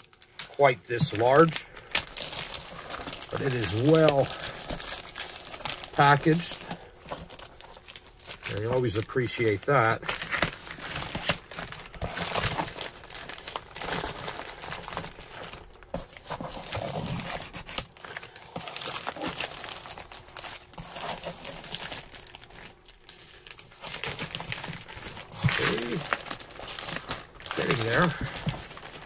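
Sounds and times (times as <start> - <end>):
plastic sheeting crinkling: 0.0 - 29.0.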